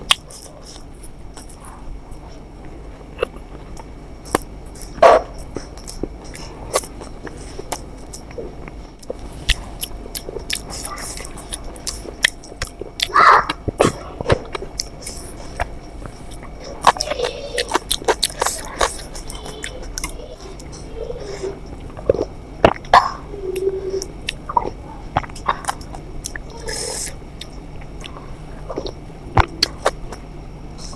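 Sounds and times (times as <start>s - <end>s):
wet chewing: 0.0s - 2.4s, 3.0s - 30.2s.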